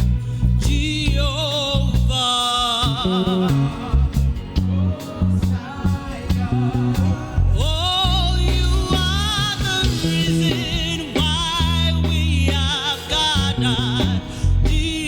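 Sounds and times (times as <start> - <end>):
gospel band playing: 0.0 - 15.0
person singing with vibrato: 0.4 - 15.0.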